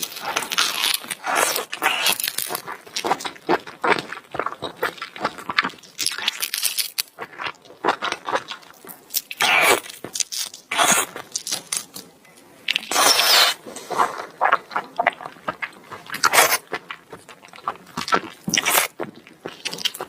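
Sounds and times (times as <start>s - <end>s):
chewing and crunching food: 0.0s - 20.0s.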